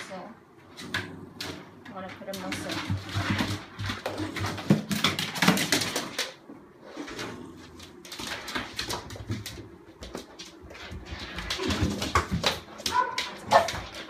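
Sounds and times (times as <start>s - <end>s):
dog scuffling on hard floor: 0.7s - 14.0s.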